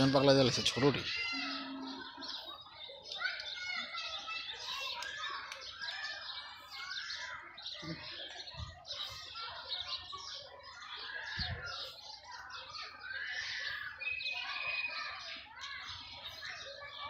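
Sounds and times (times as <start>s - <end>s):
birds chirping and twittering: 0.0s - 17.0s.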